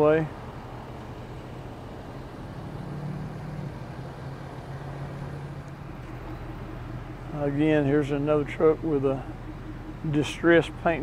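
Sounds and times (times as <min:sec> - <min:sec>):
traffic engine drone: 0:00.0 - 0:11.0.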